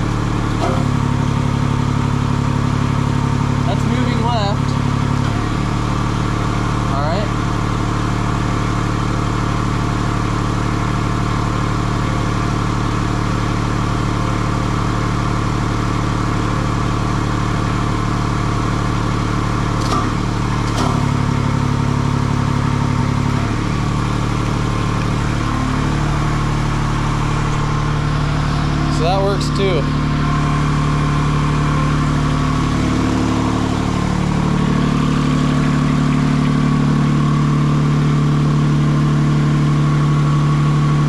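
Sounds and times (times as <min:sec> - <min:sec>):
loader engine running: 0:00.0 - 0:41.0.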